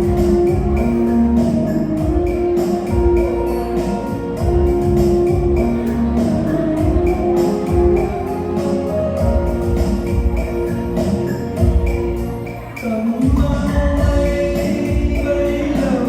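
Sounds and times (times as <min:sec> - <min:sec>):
instrumental music with steady beat: 0:00.0 - 0:16.0.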